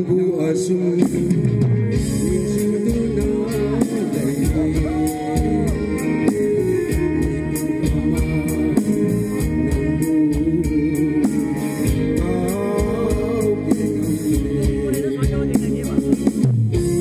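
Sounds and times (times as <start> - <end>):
live band playing: 0.0 - 17.0
man singing into microphone: 0.0 - 17.0.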